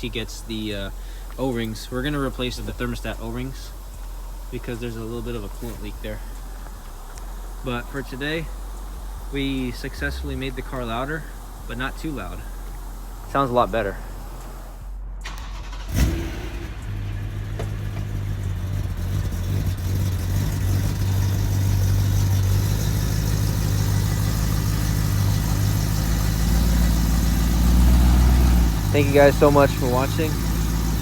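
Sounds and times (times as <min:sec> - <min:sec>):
car engine starting: 0:00.0 - 0:31.0
low exhaust rumble idling: 0:00.0 - 0:31.0.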